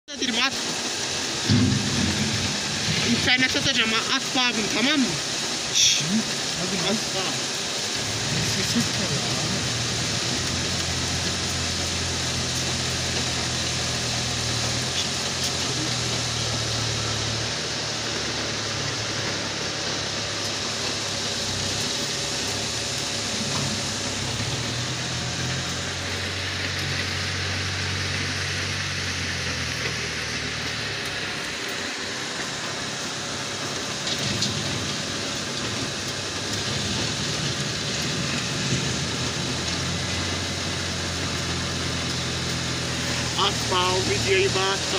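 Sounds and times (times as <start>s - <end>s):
tractor engine running: 0.2s - 44.9s.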